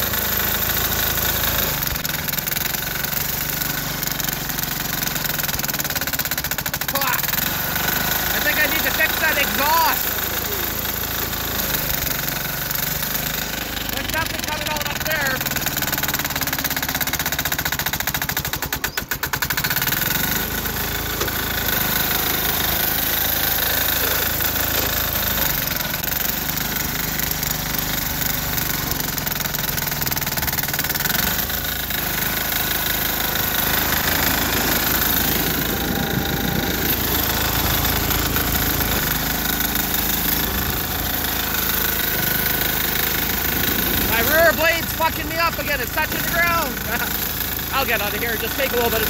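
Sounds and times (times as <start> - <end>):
diesel engine clattering: 0.0 - 49.0.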